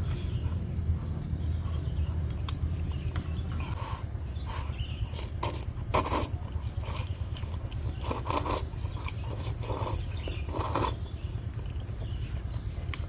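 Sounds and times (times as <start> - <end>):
chewing and slurping: 0.0 - 13.0.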